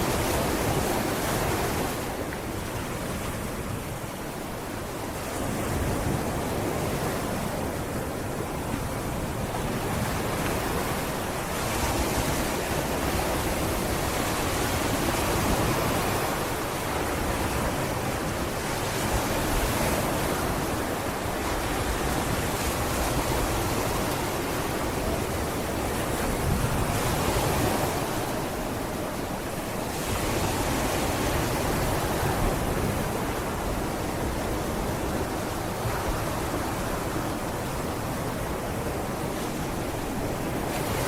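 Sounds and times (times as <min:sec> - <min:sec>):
waves breaking on a beach: 0:00.0 - 0:41.0.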